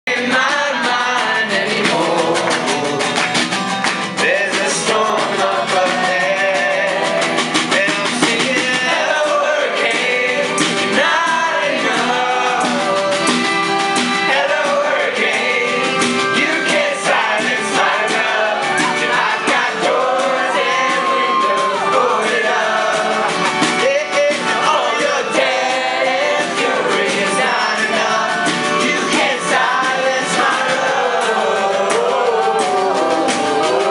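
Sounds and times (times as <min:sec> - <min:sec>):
audience singing along: 0:00.1 - 0:03.3, 0:04.2 - 0:33.9
voices singing together: 0:00.1 - 0:03.5, 0:04.1 - 0:33.9
accordion: 0:00.1 - 0:33.9
hand-played snare drum: 0:00.1 - 0:33.9
strummed acoustic guitar: 0:00.1 - 0:33.9.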